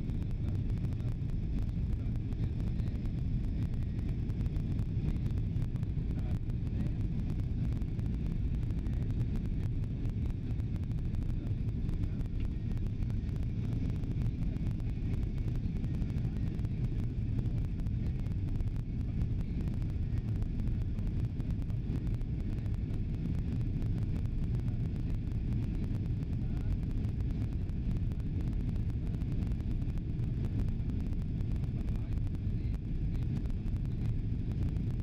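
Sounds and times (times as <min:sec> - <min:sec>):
airliner cabin rumble: 0:00.0 - 0:35.0.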